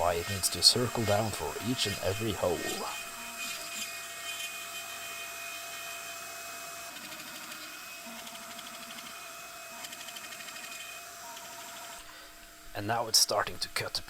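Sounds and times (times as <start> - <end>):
router spindle whining: 0.0 - 12.7.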